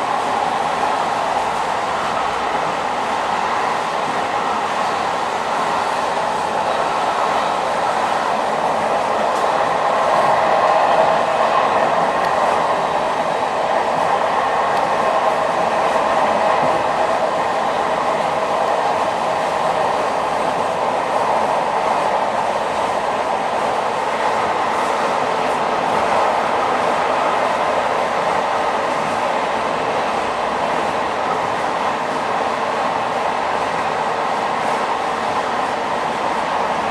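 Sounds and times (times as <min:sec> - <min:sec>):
train rail noise: 0:00.0 - 0:36.9.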